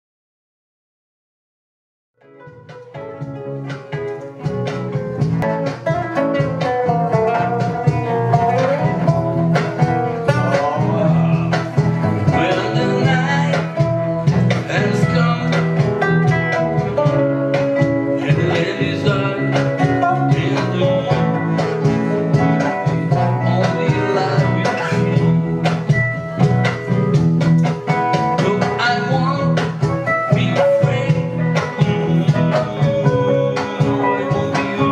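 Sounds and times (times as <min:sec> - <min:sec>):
guitar band playing: 0:02.2 - 0:34.9
pitch-bending lead guitar melody: 0:02.2 - 0:34.9
bass line: 0:02.4 - 0:34.9.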